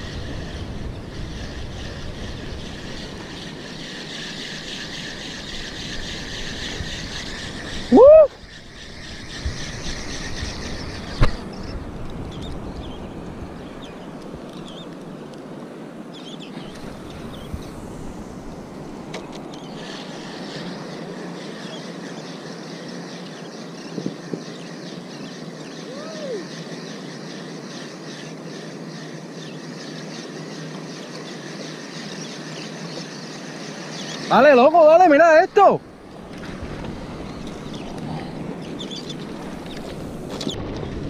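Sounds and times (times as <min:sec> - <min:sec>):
steady wind: 0:00.0 - 0:41.0.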